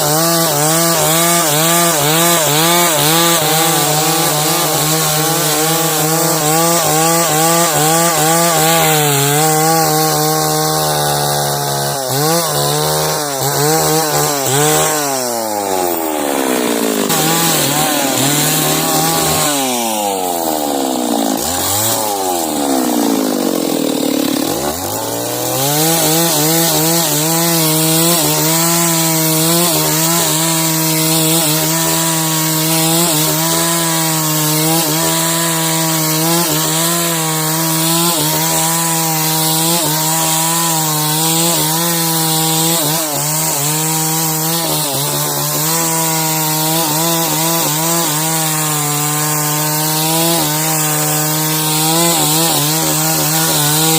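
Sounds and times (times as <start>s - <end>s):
chainsaw cutting through log: 0.0s - 53.9s.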